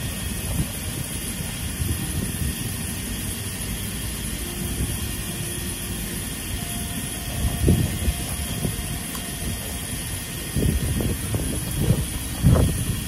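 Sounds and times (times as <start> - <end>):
electric trains idling hum: 0.0 - 13.0.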